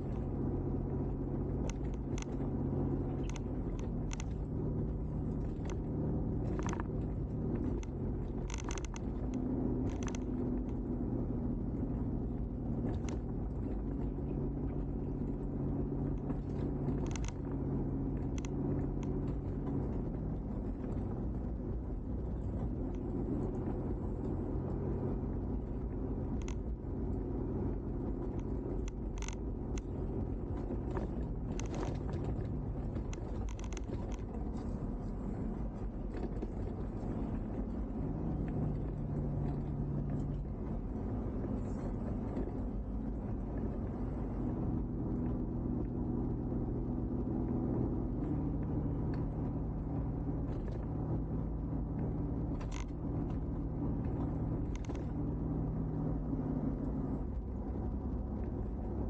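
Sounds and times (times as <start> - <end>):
car engine hum: 0.0 - 59.0
road rumble: 0.0 - 59.0.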